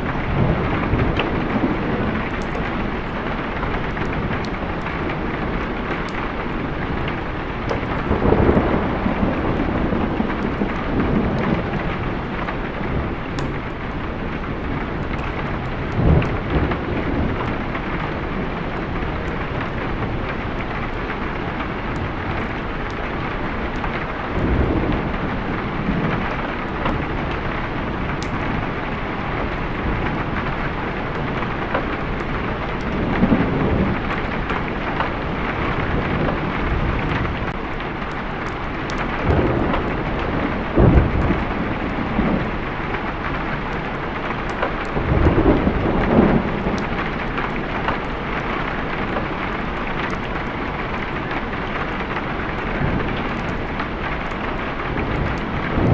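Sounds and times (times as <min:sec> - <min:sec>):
heavy rain: 0:00.0 - 0:55.9
thunder rumbling: 0:00.0 - 0:55.9.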